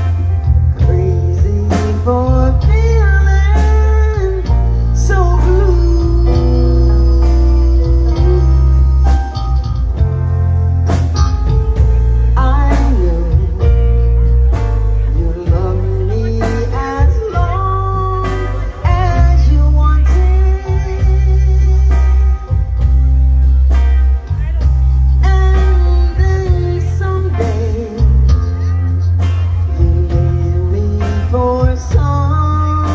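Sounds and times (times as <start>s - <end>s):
person singing: 0.0s - 10.4s, 11.7s - 32.9s
blues rock band: 0.0s - 32.9s
electric guitar: 0.0s - 32.9s
heavy bass: 0.0s - 32.9s.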